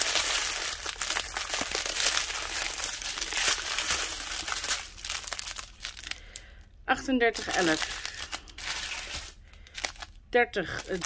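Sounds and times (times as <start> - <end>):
plastic bags crinkling: 0.0 - 6.7, 7.3 - 11.0.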